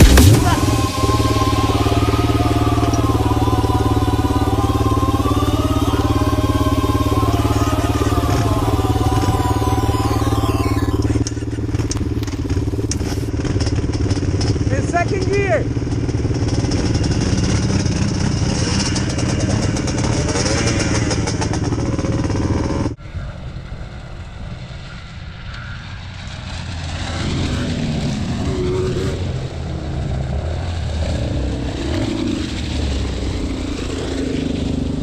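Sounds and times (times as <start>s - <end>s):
quad engine revving: 0.0s - 23.0s, 26.2s - 35.0s.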